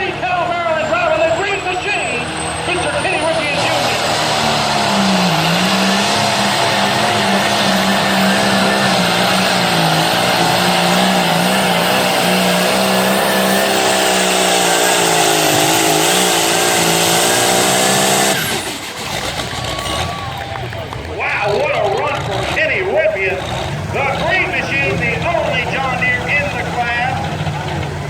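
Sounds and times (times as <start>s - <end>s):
tractor engine running flat out: 0.0s - 28.0s.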